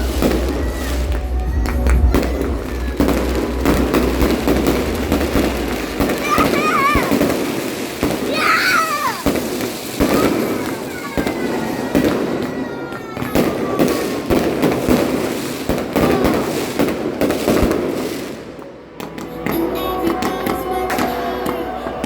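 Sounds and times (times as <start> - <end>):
fireworks banging: 0.0 - 22.0
fireworks crackling: 0.0 - 22.0.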